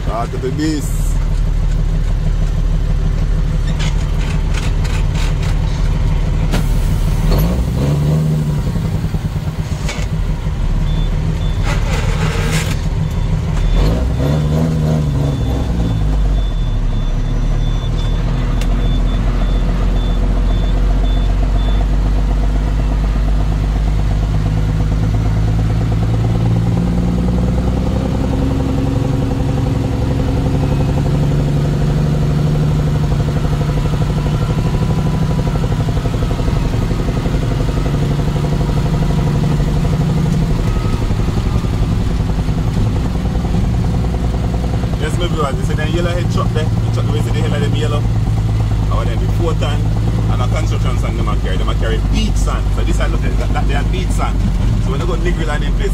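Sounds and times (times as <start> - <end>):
heavy truck engine revving: 0.0 - 55.9.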